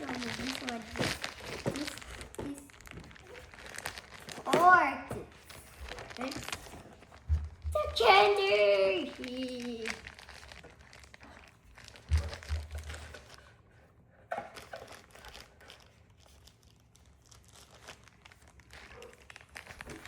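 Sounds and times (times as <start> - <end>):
wrapper crinkling and tearing: 0.0 - 20.0.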